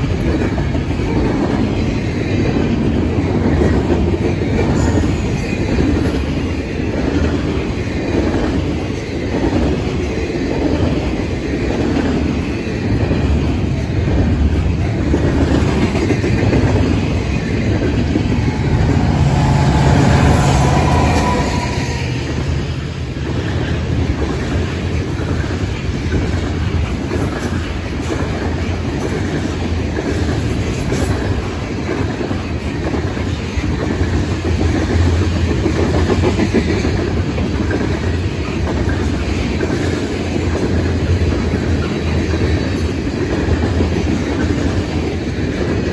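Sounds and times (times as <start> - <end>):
diesel locomotive engine hum: 0.0 - 45.9
freight train cars rumbling: 0.0 - 45.9.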